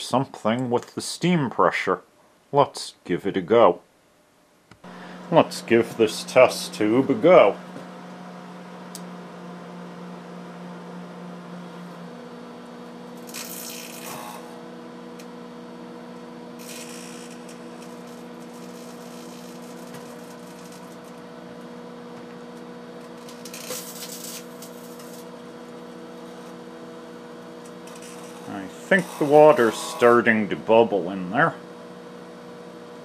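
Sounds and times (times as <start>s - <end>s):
microwave oven humming: 4.7s - 33.0s.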